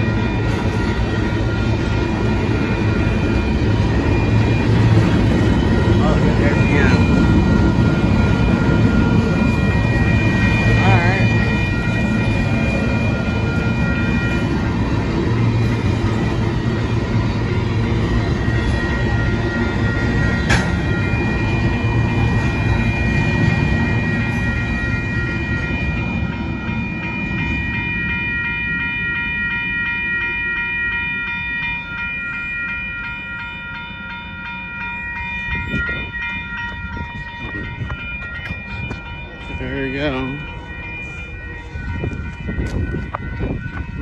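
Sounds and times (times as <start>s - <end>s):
crossing warning bell ringing: 0.0s - 44.0s
freight train rumbling past: 0.0s - 44.0s.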